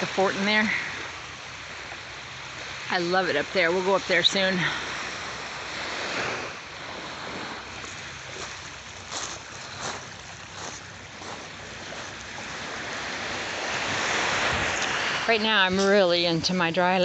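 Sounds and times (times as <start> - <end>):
waves washing on a beach: 0.0 - 17.0
wind: 0.0 - 17.0.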